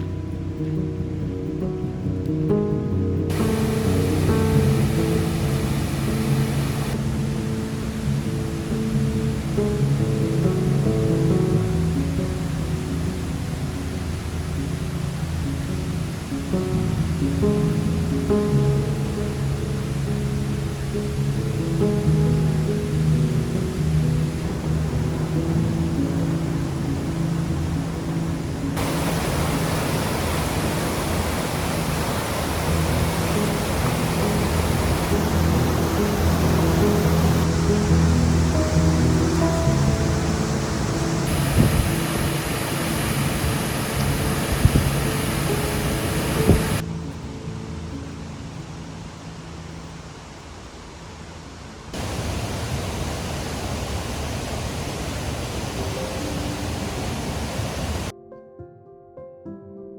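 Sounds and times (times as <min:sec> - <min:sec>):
creek water rushing: 0:00.0 - 0:58.1
faint music notes: 0:00.0 - 0:59.9.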